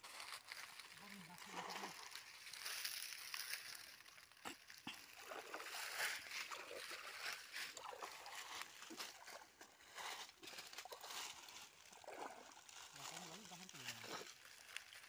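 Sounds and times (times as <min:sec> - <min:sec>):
water sloshing and splashes: 0:00.0 - 0:15.0.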